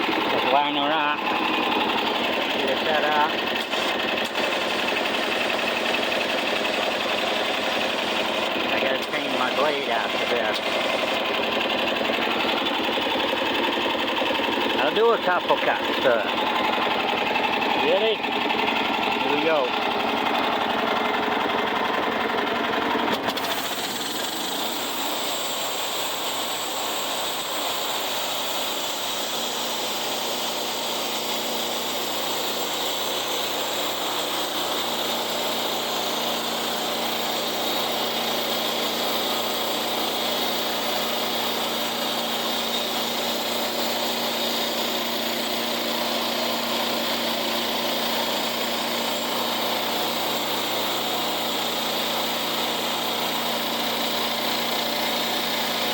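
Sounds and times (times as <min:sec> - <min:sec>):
saw blade cutting log: 0:00.0 - 0:55.9
sawmill engine running under load: 0:00.0 - 0:55.9.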